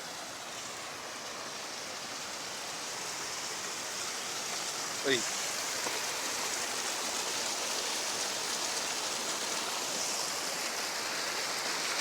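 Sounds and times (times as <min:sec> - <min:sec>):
rush of running water: 0:00.0 - 0:12.0.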